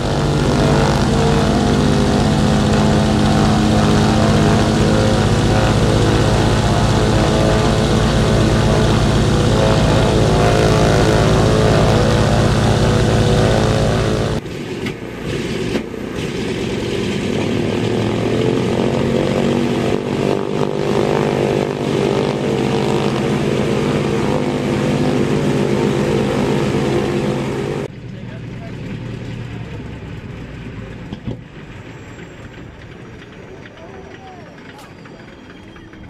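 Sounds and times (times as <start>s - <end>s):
propeller plane engines droning: 0.0s - 36.0s.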